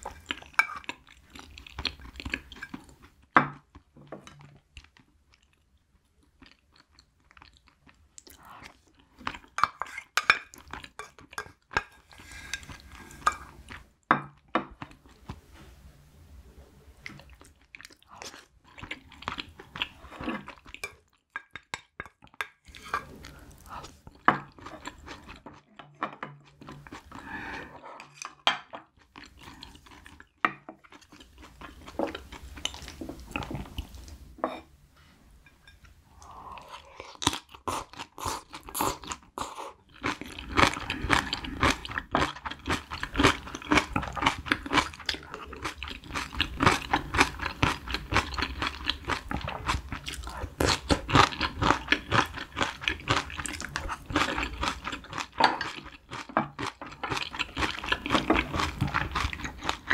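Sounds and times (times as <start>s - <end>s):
chewing and crunching food: 0.0s - 15.5s, 17.0s - 34.2s, 36.2s - 59.9s.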